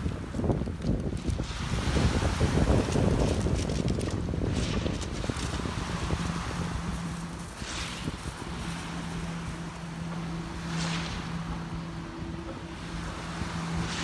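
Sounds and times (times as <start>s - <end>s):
low motor hum: 0.0s - 14.0s
sea waves breaking: 0.0s - 14.0s
wind buffeting microphone: 0.0s - 14.0s.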